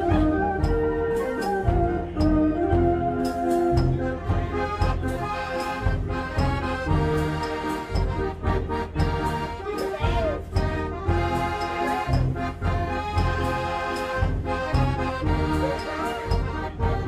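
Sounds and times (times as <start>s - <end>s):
dance organ playing a tune: 0.0s - 17.0s.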